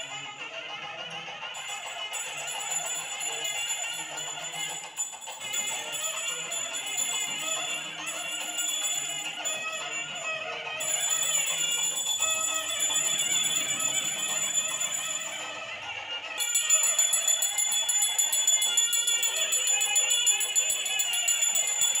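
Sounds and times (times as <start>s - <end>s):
hand bell ringing: 1.5s - 22.0s.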